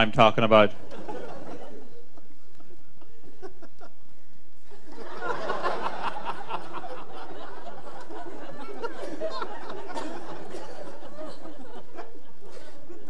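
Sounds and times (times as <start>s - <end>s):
audience laughing: 0.8s - 4.1s, 4.7s - 13.0s.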